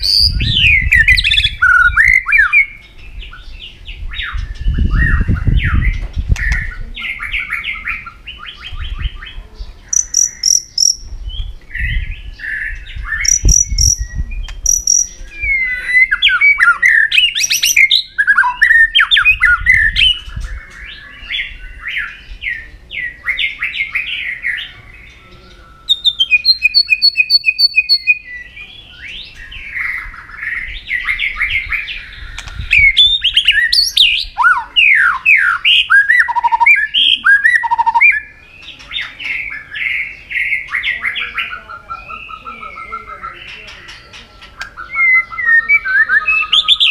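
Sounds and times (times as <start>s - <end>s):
songbird singing whistled phrases: 0.0s - 46.9s.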